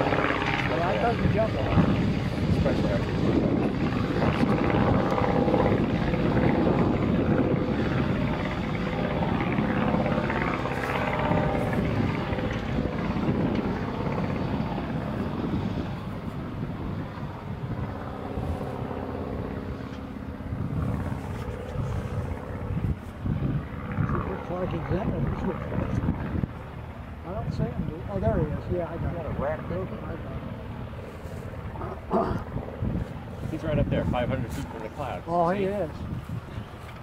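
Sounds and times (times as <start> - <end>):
propeller plane engine drone: 0.0 - 37.0.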